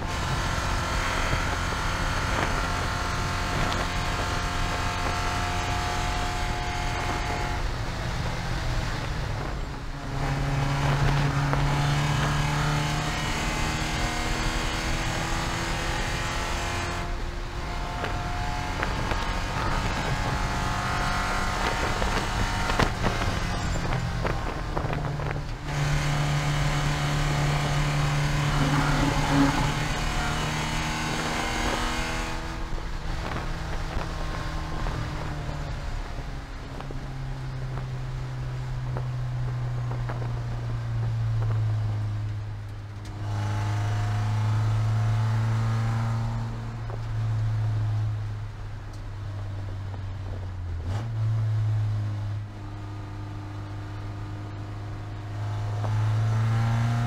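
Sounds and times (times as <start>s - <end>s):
race car engine from inside cabin: 0.0s - 57.0s.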